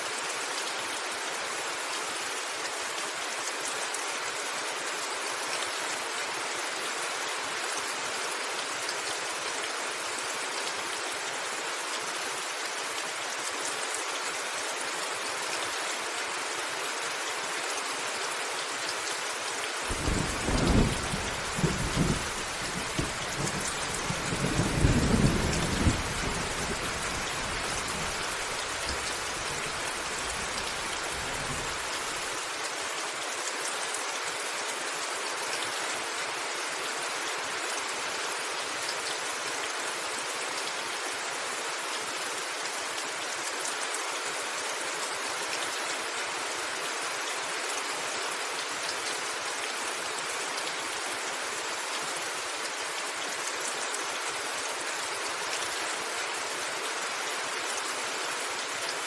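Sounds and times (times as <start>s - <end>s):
rain pattering on a roof: 0.0s - 59.0s.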